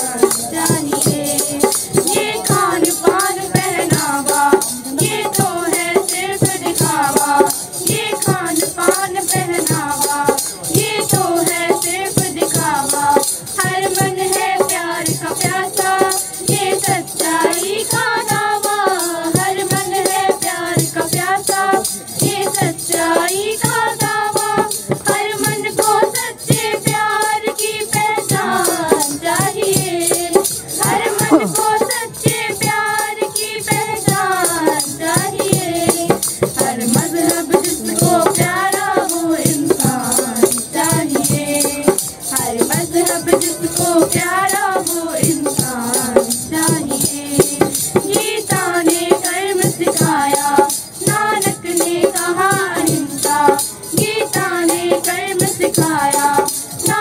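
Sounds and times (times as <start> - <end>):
girls singing into microphones: 0.0 - 57.0
tambourines shaken: 0.0 - 57.0.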